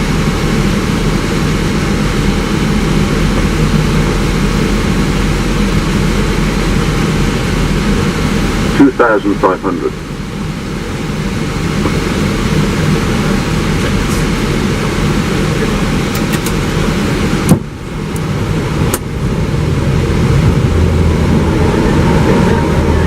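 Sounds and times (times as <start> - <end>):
aircraft engine noise: 0.0 - 23.0
cockpit airflow rush: 0.0 - 23.0.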